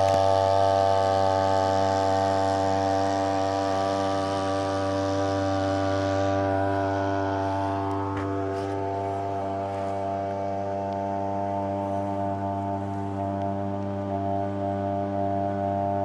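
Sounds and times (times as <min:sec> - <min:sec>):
outboard boat motor buzzing: 0:00.0 - 0:16.0.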